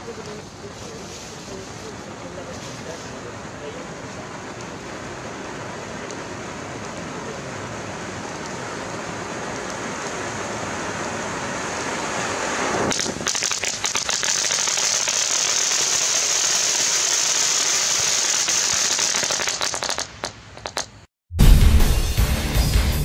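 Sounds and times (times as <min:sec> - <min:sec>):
firework fountain hissing and crackling: 0:00.0 - 0:21.1.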